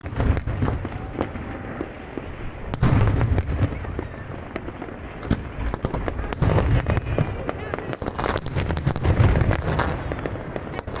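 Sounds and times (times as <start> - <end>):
fireworks bursting with bangs: 0.0 - 11.0
fireworks crackle: 0.0 - 11.0.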